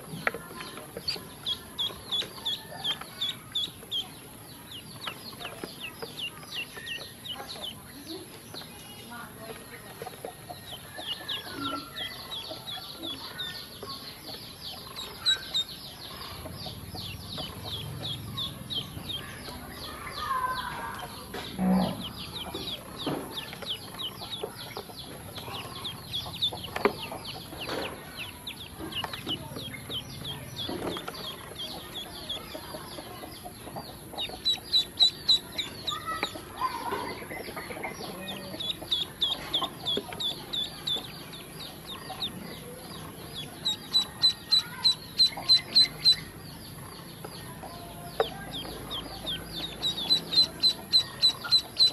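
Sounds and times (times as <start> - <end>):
ducklings peeping: 0.0 - 51.9.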